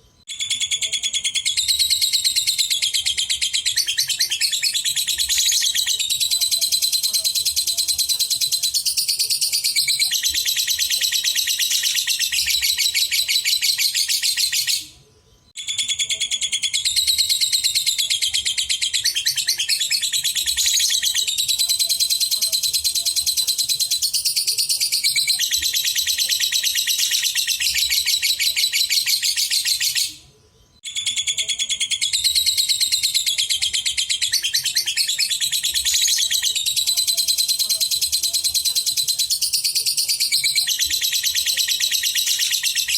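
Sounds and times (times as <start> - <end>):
lovebird chattering: 0.3 - 14.9, 15.6 - 30.2, 30.9 - 42.9.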